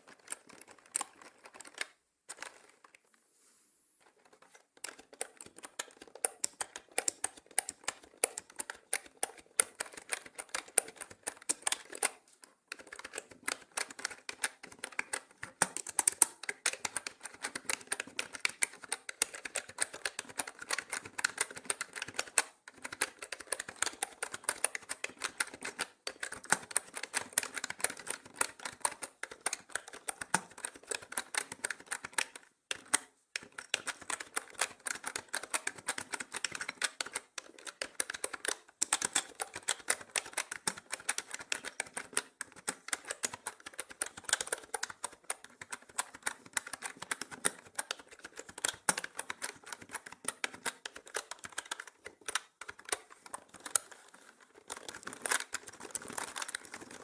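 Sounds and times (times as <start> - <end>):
mechanical keyboard typing: 0.0 - 3.0, 4.0 - 57.0.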